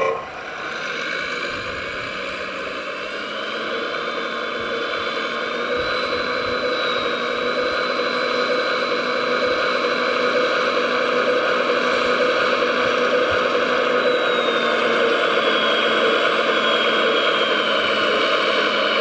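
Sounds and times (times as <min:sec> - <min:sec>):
model vehicle motor whine: 0:00.0 - 0:19.0.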